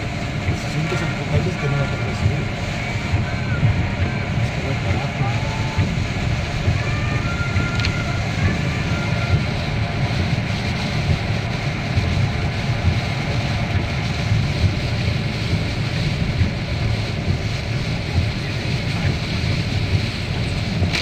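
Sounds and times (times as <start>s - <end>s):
car driving in heavy rain: 0.0s - 21.0s.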